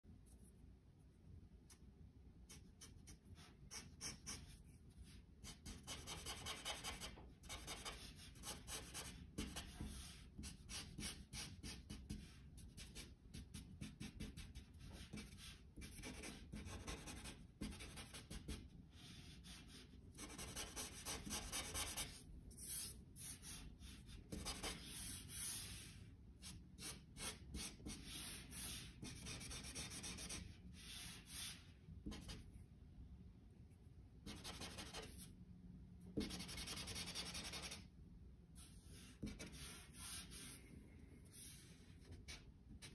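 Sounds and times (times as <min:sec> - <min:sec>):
marker scratching on paper: 0:02.5 - 0:32.4, 0:34.2 - 0:35.3, 0:36.2 - 0:37.8, 0:38.6 - 0:40.6, 0:41.3 - 0:42.9.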